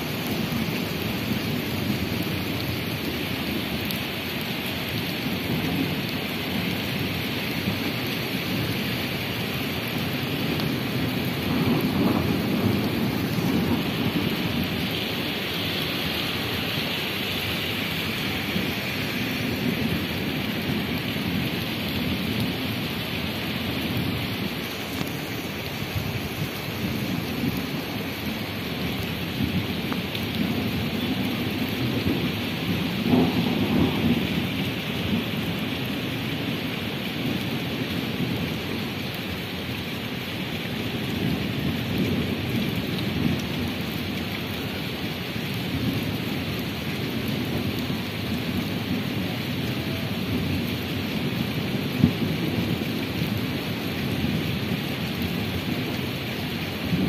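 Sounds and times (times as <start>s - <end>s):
rain on wet pavement: 0.0s - 57.0s.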